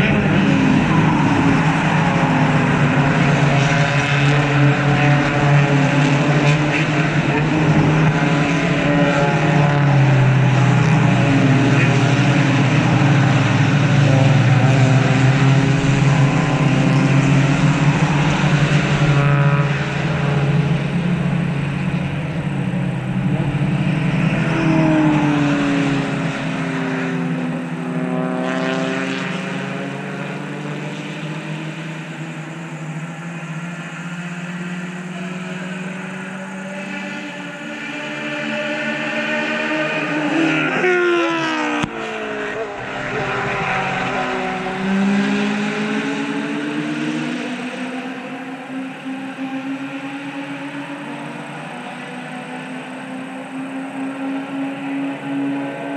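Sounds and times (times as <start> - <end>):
race cars passing at speed: 0.0 - 55.9.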